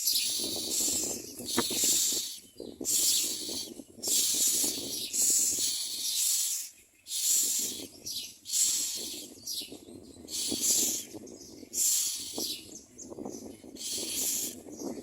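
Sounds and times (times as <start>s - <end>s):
nestlings begging with hissing rasps: 0.0s - 14.9s.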